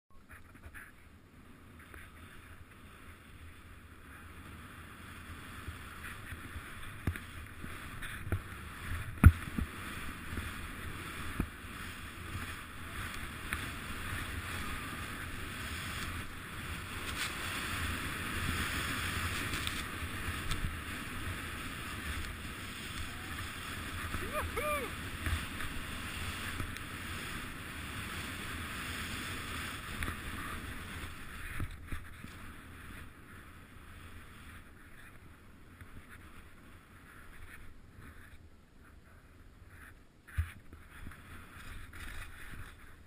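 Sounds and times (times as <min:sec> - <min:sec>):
wind rumbling on microphone: 0:00.1 - 0:43.0
skis hissing through powder snow: 0:01.5 - 0:38.4.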